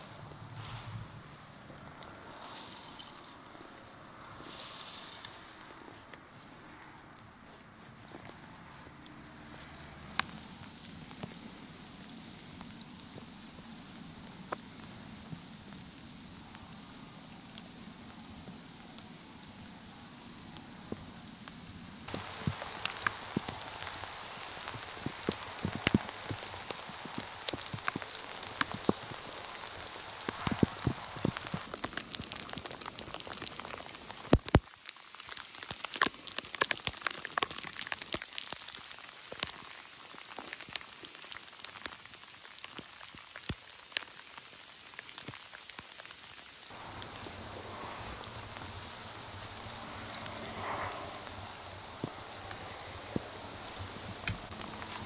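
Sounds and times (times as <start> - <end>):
rain hiss: 0.0 - 55.0
raindrops tapping: 10.1 - 55.0.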